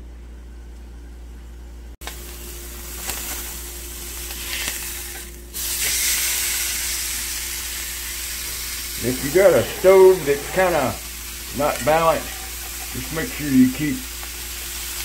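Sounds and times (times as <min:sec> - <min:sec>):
meat sizzling in a skillet: 0:02.0 - 0:15.0.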